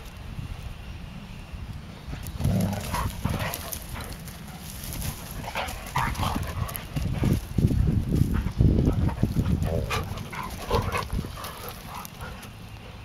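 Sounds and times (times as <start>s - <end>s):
steady low rumble: 0.4s - 13.0s
dogs digging in dirt: 2.1s - 13.0s.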